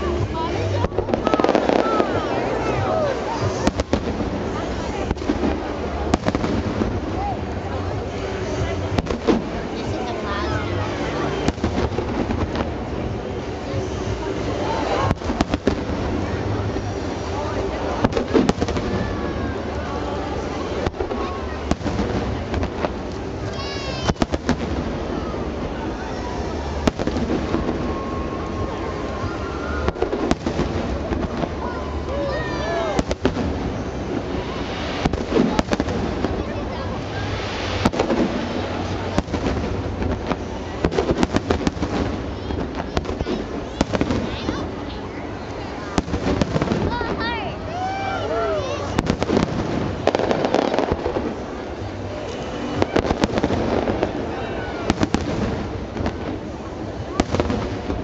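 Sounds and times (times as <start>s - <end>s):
crowd noise: 0.0s - 58.0s
rumble and crackle of fireworks: 0.0s - 58.0s.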